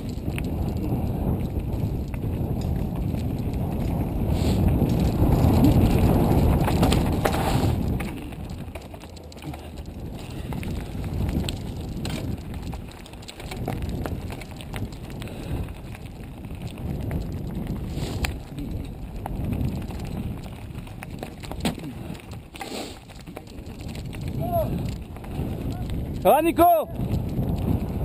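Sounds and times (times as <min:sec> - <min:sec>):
bike clicks and rattles: 0:00.0 - 0:28.0
bike tyres rumbling: 0:00.0 - 0:28.0
wind: 0:00.0 - 0:28.0.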